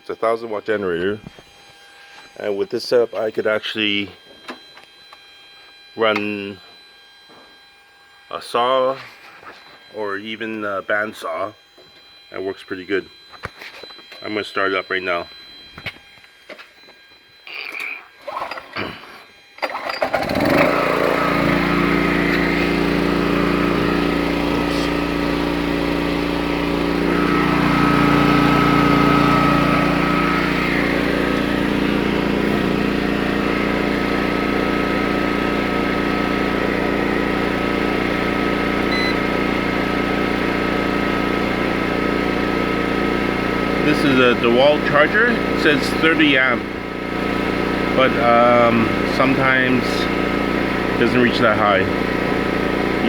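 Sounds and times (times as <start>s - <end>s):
generator starting and running: 0.0s - 7.6s, 8.4s - 53.0s.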